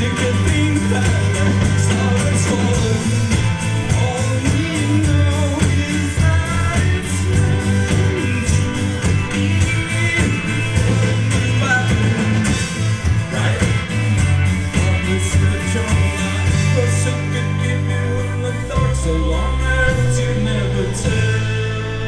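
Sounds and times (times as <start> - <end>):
lead vocal singing: 0.0 - 22.0
live rock band: 0.0 - 22.0
sustained low bass notes: 0.0 - 22.0.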